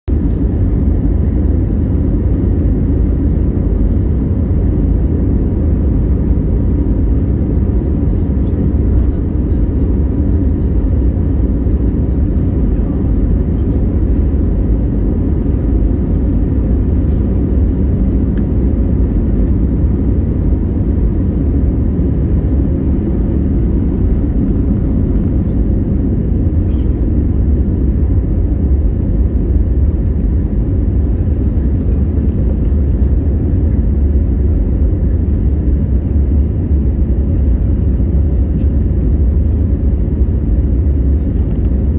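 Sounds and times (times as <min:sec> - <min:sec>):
jet engines rumbling: 0:00.1 - 0:41.9.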